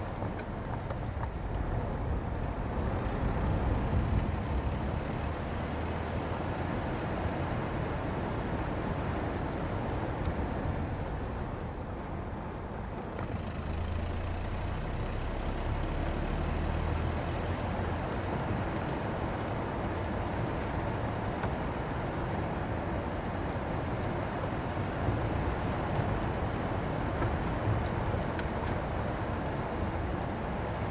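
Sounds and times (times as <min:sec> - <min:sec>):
car tyres road noise: 0:00.0 - 0:30.9.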